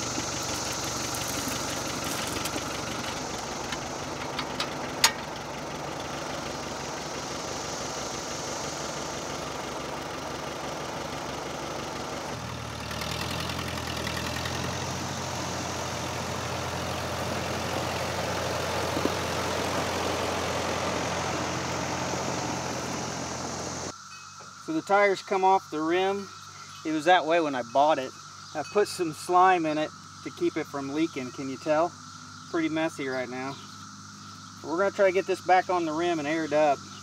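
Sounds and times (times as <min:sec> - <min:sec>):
tractor engine idling: 0:00.0 - 0:37.0.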